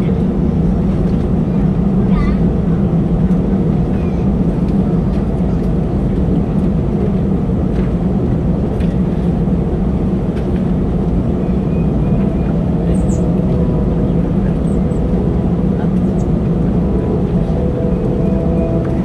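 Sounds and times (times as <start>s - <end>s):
airplane cabin engine hum: 0.0s - 19.0s.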